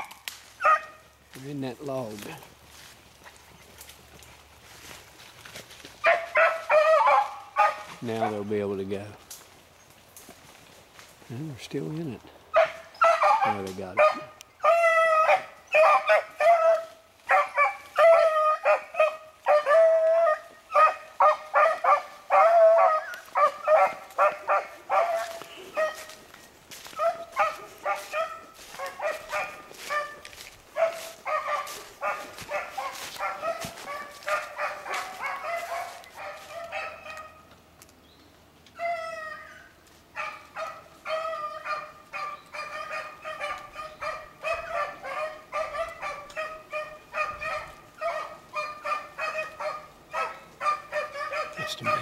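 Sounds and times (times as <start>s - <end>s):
dogs baying in chorus: 0.0s - 1.2s, 5.8s - 8.5s, 12.5s - 37.6s, 38.7s - 52.0s.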